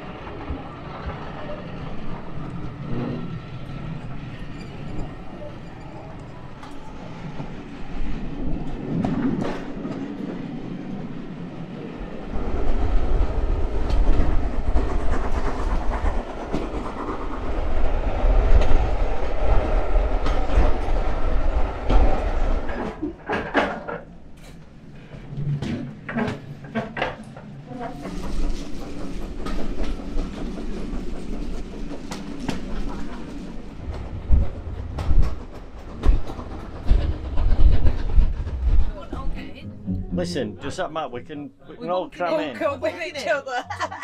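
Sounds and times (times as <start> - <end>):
train wheels rumbling on track: 0.0 - 39.7.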